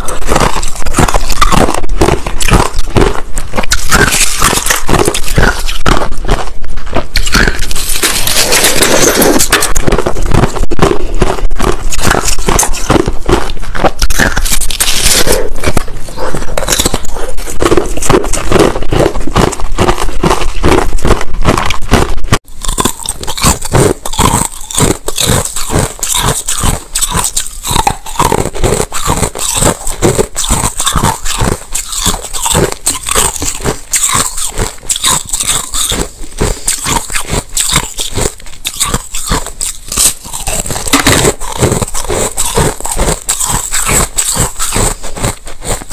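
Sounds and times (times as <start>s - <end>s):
ice crunching while chewed: 0.0s - 45.9s.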